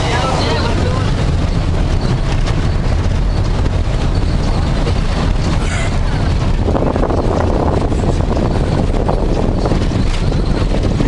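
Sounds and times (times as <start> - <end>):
tyres on wet road: 0.0 - 11.0
vehicle engine rumble: 0.0 - 11.0.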